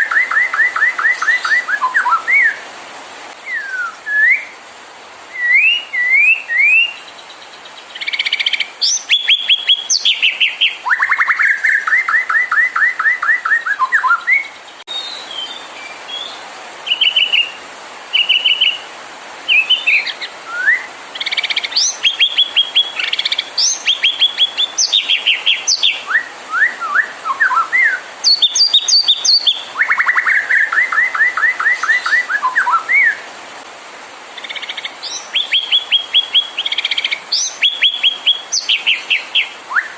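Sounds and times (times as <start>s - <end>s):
songbird whistles and trills: 0.0s - 2.6s, 3.4s - 4.6s, 5.3s - 18.8s, 19.5s - 33.3s, 34.4s - 39.9s.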